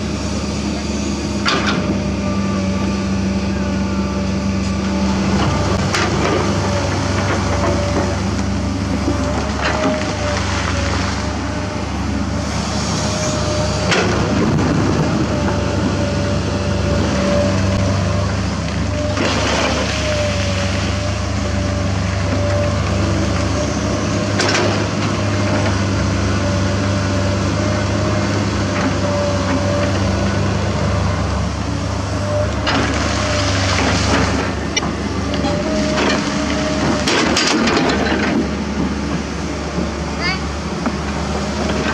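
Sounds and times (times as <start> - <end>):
excavator diesel engines running: 0.0 - 41.9.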